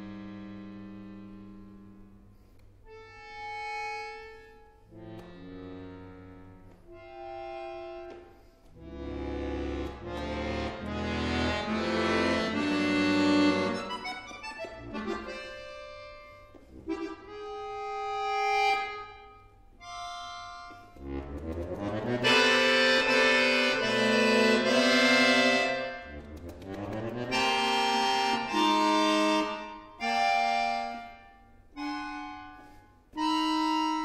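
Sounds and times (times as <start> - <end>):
accordion chords: 0.0 - 34.0.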